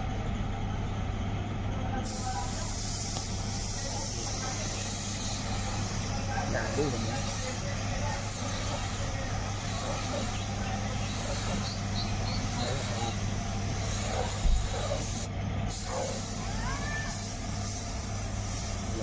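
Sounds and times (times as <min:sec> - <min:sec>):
paint spray gun hissing: 0:02.0 - 0:19.0.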